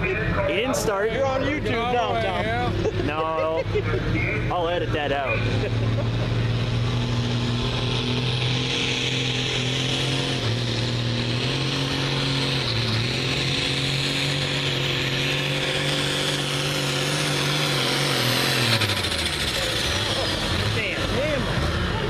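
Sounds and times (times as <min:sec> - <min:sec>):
high engine whine: 0:00.0 - 0:22.0
tractor diesel engine at full throttle: 0:00.0 - 0:22.0.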